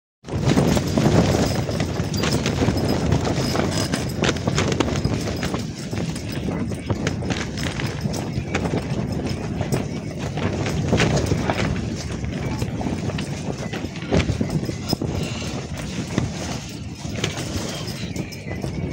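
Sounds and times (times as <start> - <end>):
tent fabric flapping: 0.2 - 18.9
wind gusts on microphone: 0.2 - 18.9.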